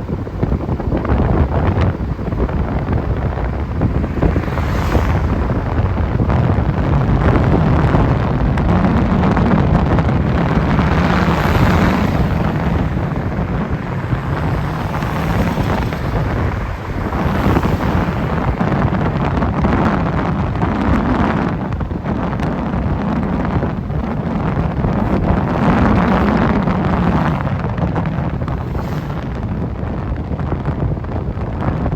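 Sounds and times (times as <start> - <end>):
steady low rumble: 0.0 - 31.9
wind buffeting microphone: 0.0 - 31.9.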